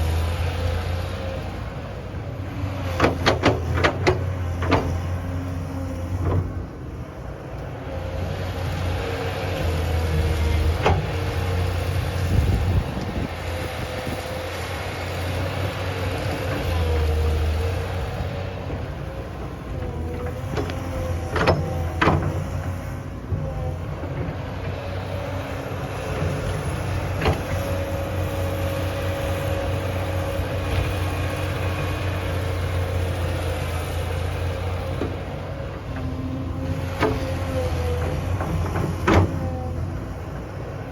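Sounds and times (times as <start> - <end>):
large engine humming: 0.0 - 40.9.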